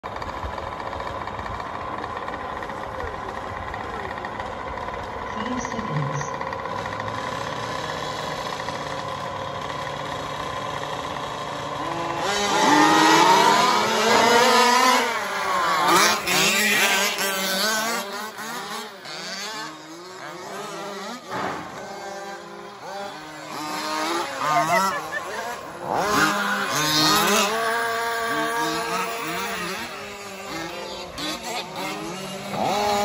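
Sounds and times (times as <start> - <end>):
remote-control truck motors whining: 0.0 - 33.0.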